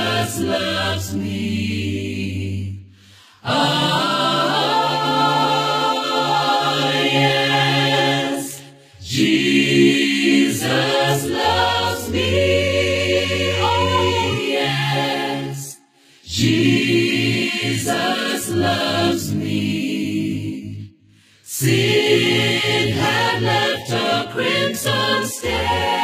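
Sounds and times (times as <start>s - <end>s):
choir singing a hymn: 0.0s - 26.0s.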